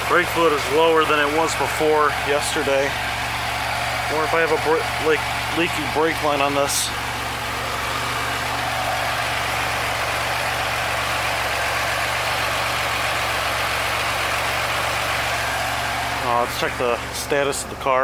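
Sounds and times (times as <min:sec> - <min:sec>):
car engine idling roughly: 0:00.0 - 0:18.0.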